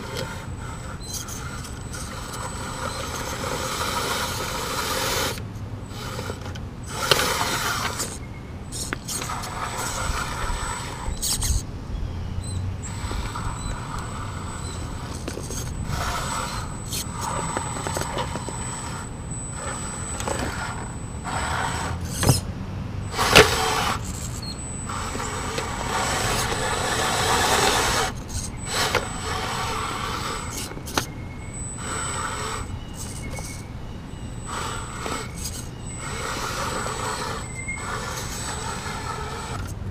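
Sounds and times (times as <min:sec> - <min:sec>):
tyres scraping on rocks: 0:00.0 - 0:11.6, 0:12.8 - 0:22.5, 0:23.1 - 0:39.9
electric motor and gears whining: 0:00.0 - 0:39.9.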